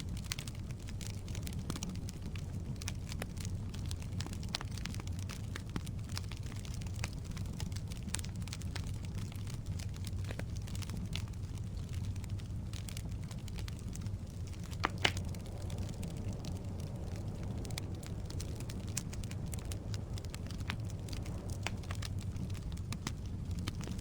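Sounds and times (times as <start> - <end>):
fire rumbling: 0.0 - 24.0
firewood crackling and popping: 0.0 - 24.0.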